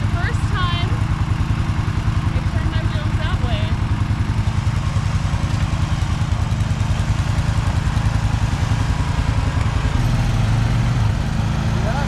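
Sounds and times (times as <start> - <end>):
vehicle engine low throb: 0.0 - 12.0.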